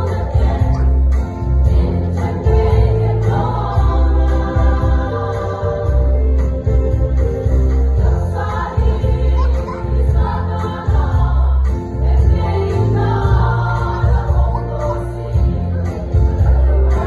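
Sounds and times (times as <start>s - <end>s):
bass-heavy instrumental accompaniment: 0.0s - 17.0s
women's choir singing a hymn: 0.0s - 17.0s.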